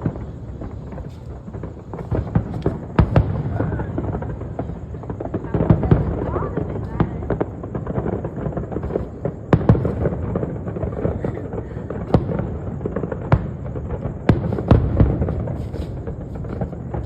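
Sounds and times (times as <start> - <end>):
firework bangs: 0.0 - 17.0
fireworks crackling: 0.0 - 17.0.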